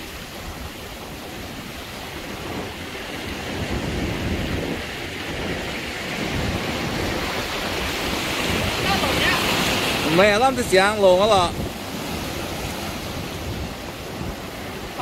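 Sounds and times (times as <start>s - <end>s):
surf washing in shallow water: 0.0s - 15.0s
wind on microphone: 0.0s - 15.0s.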